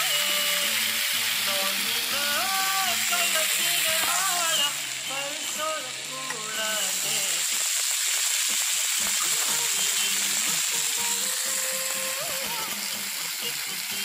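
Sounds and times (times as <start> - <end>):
chicken sizzling on hot plate: 0.0 - 14.0.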